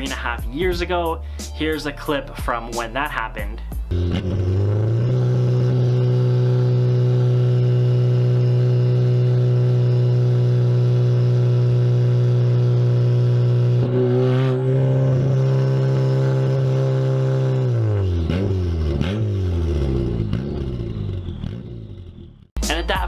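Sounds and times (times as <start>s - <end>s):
car engine exhaust running: 3.7s - 22.6s.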